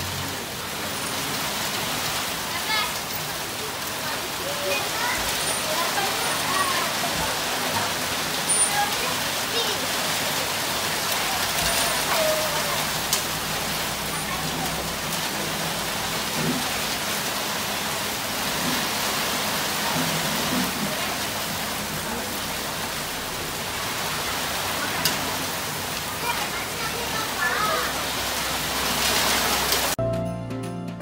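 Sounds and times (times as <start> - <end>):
heavy rain on road: 0.0 - 30.0.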